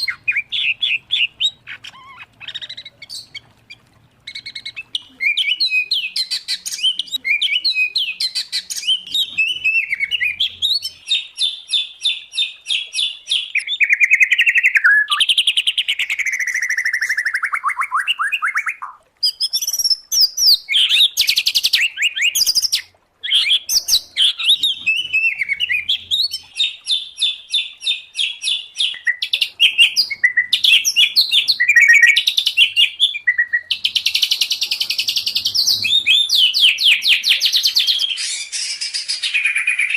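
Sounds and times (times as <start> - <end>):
songbird song with chips and trills: 0.0 - 39.9.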